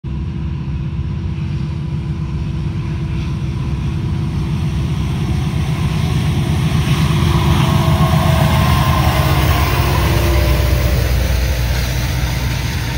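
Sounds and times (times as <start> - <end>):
diesel locomotive engine rumble: 0.0 - 12.9.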